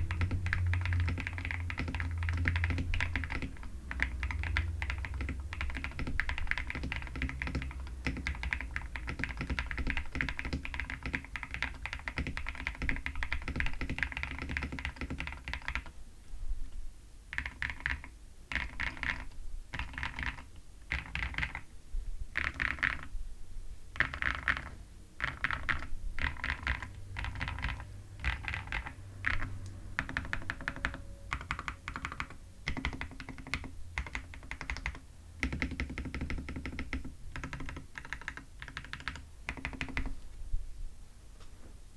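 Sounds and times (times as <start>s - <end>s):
typing on mechanical keyboard: 0.0s - 16.0s, 17.3s - 21.7s, 22.4s - 23.1s, 24.0s - 40.2s.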